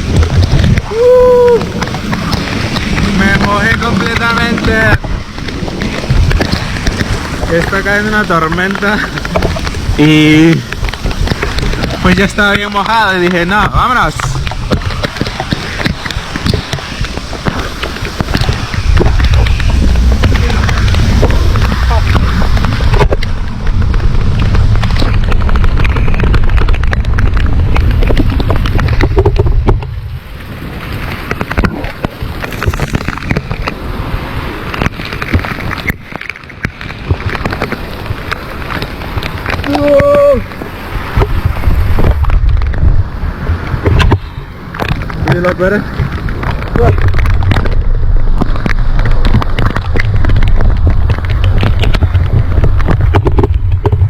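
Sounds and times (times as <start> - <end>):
heavy rain: 0.0 - 54.0
wind buffeting microphone: 0.0 - 54.0.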